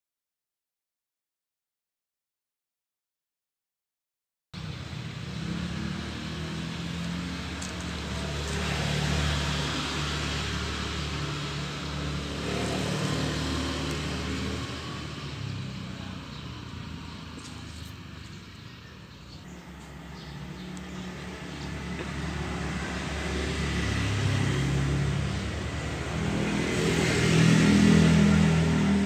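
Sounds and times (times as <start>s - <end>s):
vehicle engine running: 4.6s - 29.0s.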